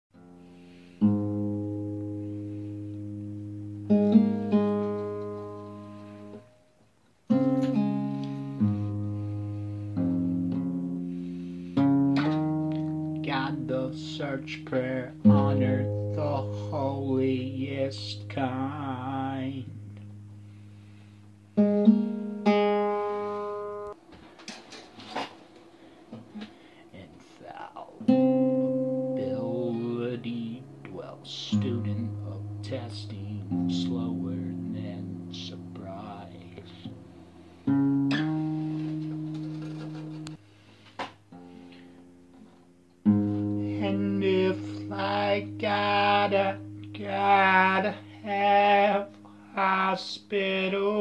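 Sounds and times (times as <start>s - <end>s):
acoustic guitar chords strummed: 0.2s - 6.6s, 7.2s - 24.0s, 26.2s - 51.0s
acoustic guitar low note: 0.2s - 6.6s, 7.3s - 24.0s, 26.1s - 51.0s.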